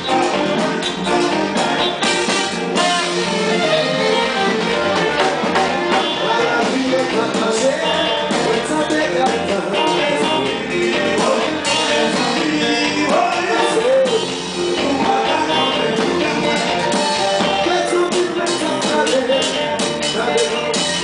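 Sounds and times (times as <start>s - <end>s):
congas: 0.0s - 21.0s
drum kit beat: 0.0s - 21.0s
electric guitar: 0.0s - 21.0s.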